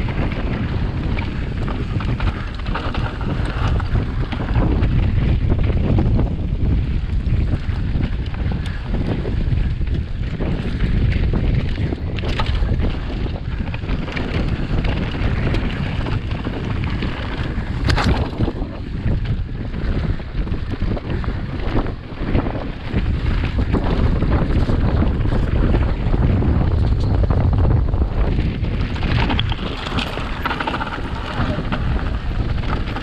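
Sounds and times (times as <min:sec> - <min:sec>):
bike rattling and knocking: 0:00.0 - 0:33.0
wind buffeting microphone: 0:00.0 - 0:33.0.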